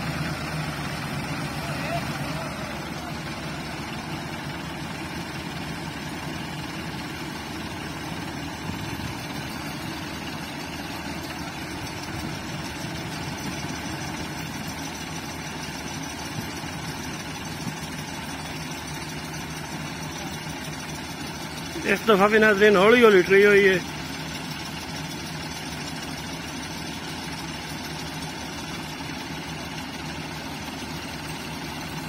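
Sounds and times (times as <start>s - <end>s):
tractor diesel engines idling: 0.0s - 32.0s.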